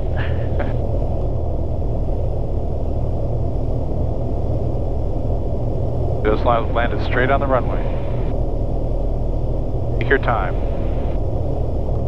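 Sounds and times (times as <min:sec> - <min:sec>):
aircraft engine and airflow drone: 0:00.0 - 0:12.0.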